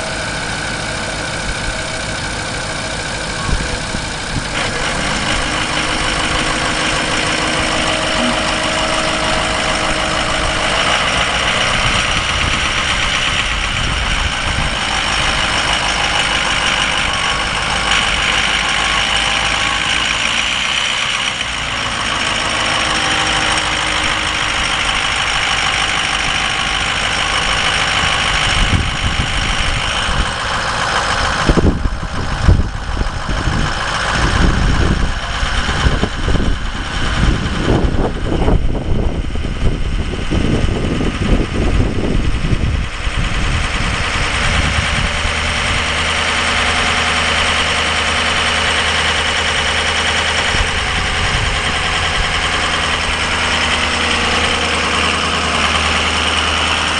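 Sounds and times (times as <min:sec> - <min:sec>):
diesel engine idling: 0:00.0 - 0:56.9
low buffeting: 0:00.0 - 0:56.9.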